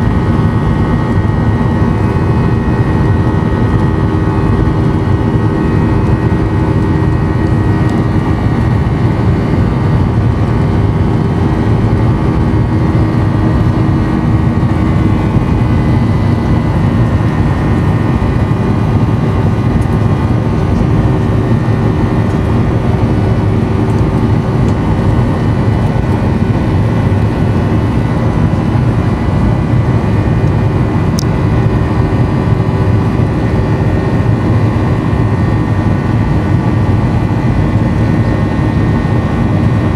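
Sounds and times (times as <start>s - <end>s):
humming and whining tones: 0.0s - 39.9s
jet engine rumble in cabin: 0.0s - 39.9s.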